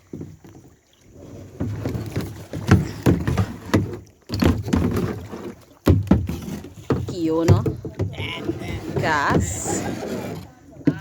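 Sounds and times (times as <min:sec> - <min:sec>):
paddles splashing water: 0:00.0 - 0:11.0.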